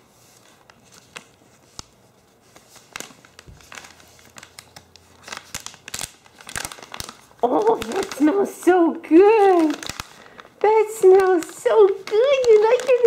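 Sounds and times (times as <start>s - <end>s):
plastic pouch crinkling: 0.2s - 13.0s.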